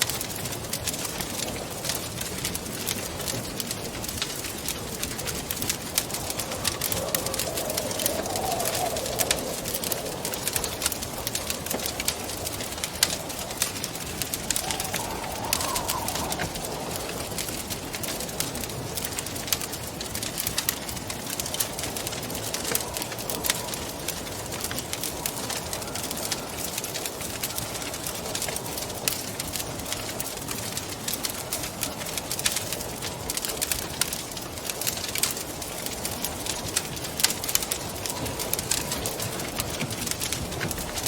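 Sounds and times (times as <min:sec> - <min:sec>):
wind rushing and howling: 0:00.0 - 0:41.0
wood fire crackling: 0:00.0 - 0:41.0.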